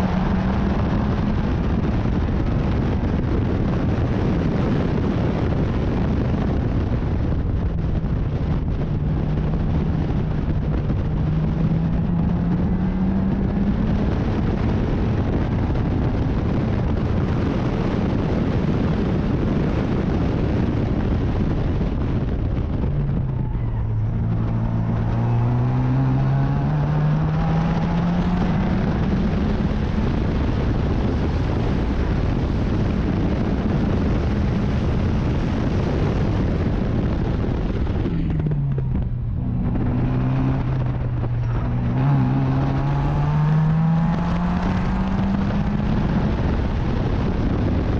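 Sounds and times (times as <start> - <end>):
racing car engine: 0.0 - 47.9
wind and road noise: 0.0 - 47.9.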